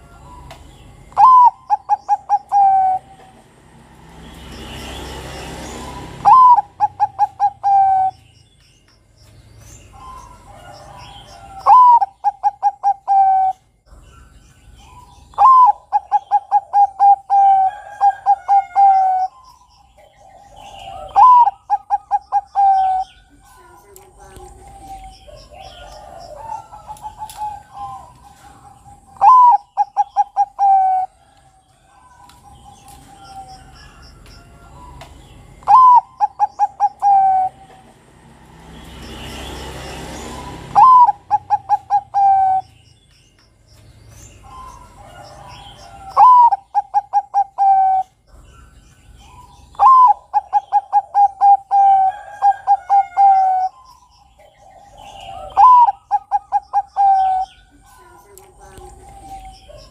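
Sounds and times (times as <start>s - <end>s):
dove cooing song: 0.0s - 8.4s, 9.6s - 42.8s, 44.1s - 59.9s
small birds chirping: 0.0s - 59.9s.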